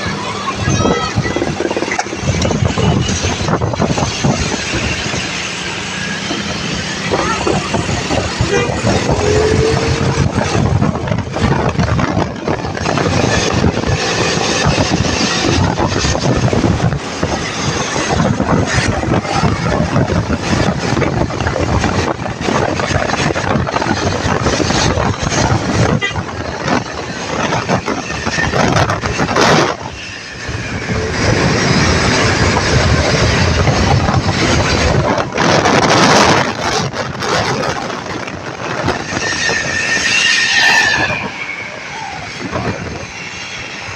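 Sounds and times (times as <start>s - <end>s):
highway traffic road noise: 0.0s - 43.9s
rushing wind: 0.0s - 43.9s.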